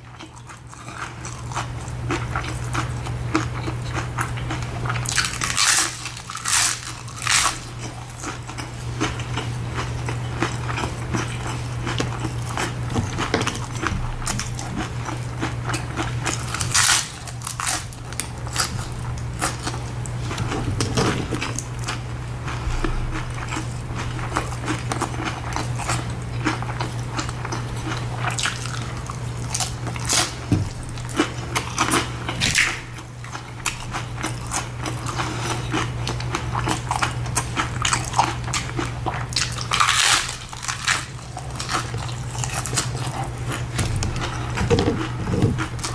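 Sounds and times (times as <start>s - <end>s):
steady low hum: 0.0s - 45.9s
chewing mouth sounds: 0.1s - 45.9s.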